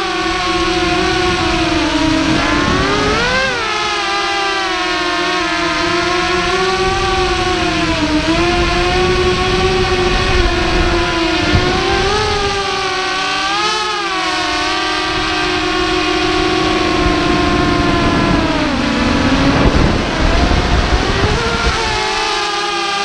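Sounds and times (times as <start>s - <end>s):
quadcopter motors whining: 0.0s - 23.0s
wind rush on microphone: 0.0s - 23.0s.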